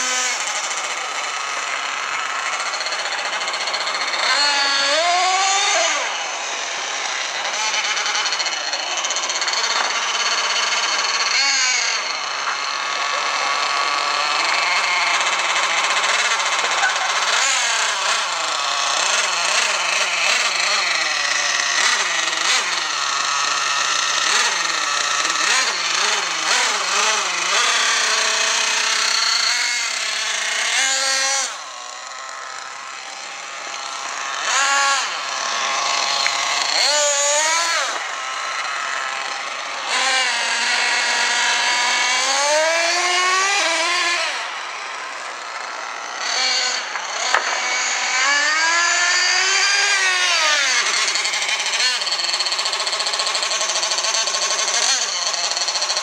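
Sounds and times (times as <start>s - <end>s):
small nitro engine revving: 0.0s - 56.0s.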